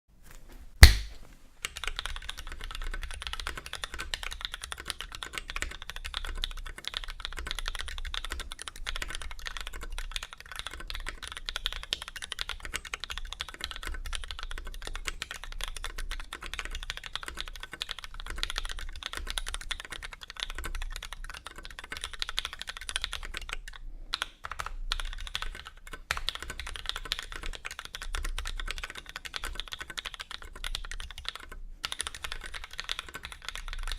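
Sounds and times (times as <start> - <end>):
fast typing on mechanical keyboard: 1.6 - 33.9.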